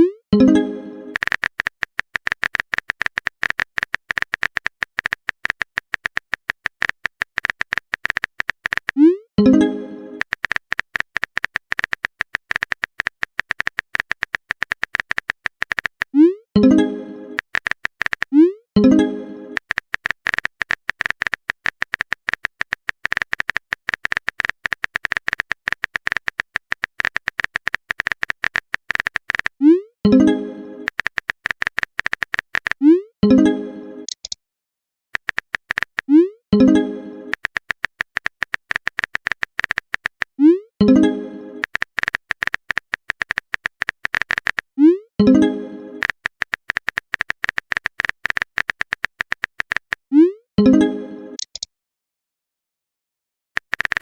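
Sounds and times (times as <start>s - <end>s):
keyboard typing clicks: 0.0s - 32.9s, 34.0s - 34.4s, 35.2s - 50.8s, 51.4s - 51.7s, 53.6s - 54.0s.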